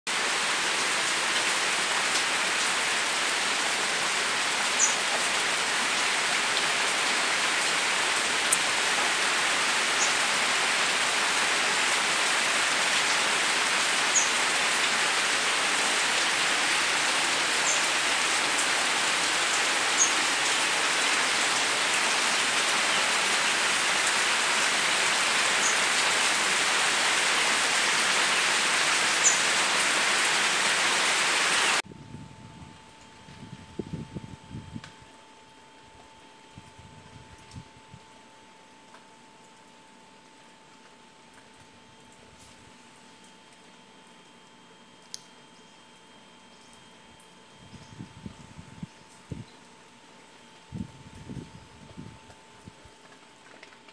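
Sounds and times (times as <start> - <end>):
rain pouring on plants: 0.1 - 31.9, 32.6 - 53.9.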